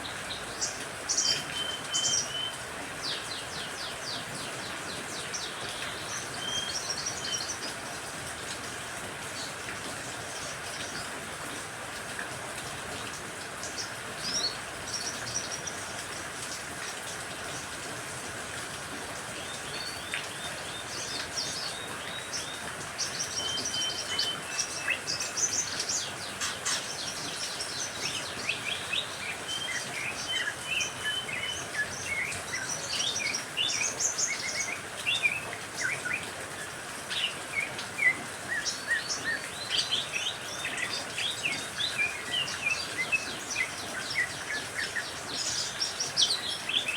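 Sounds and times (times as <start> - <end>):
rain hiss: 0.0 - 46.9
songbirds chirping and trilling: 0.0 - 46.9.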